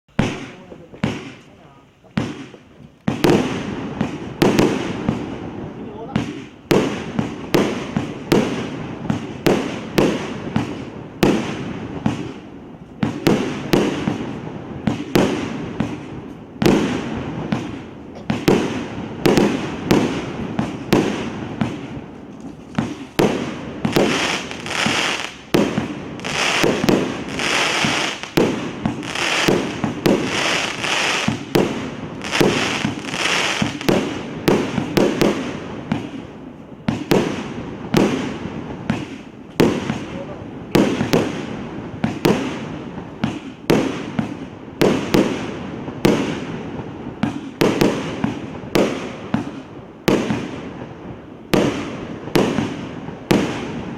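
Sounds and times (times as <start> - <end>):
fireworks bangs: 0.1 - 53.9
fireworks crackling hiss: 0.1 - 53.9.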